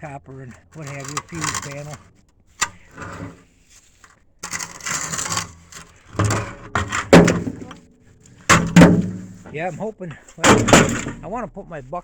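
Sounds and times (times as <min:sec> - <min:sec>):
scrap scraping shuffle: 0:00.0 - 0:12.0.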